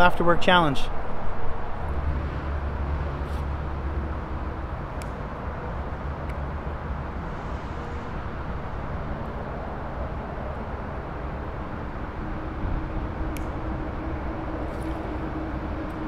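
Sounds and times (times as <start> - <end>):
low outdoor rumble and hiss: 0.0 - 16.0.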